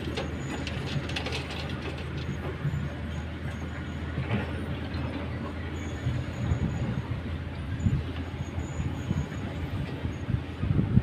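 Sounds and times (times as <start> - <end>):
diesel engine running: 0.0 - 11.0
excavator clanks and rattles: 0.0 - 11.0.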